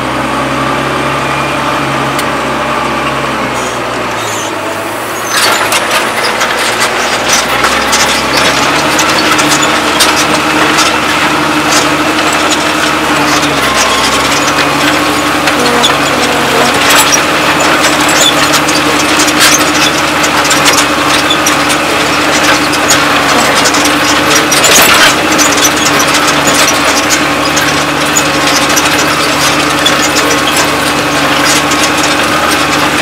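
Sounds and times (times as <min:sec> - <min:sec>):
tractor engine under load: 0:00.0 - 0:33.0.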